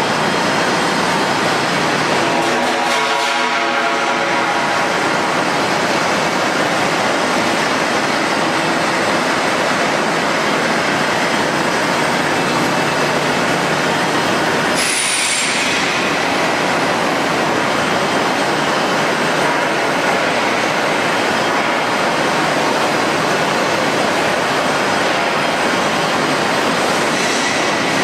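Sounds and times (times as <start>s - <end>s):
pipe mill machinery running: 0.0s - 28.0s.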